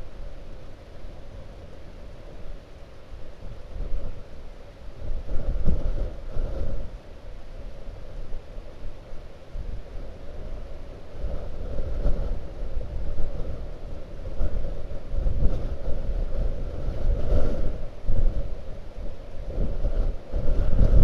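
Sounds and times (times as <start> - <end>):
wind buffeting microphone: 1.1 - 21.0.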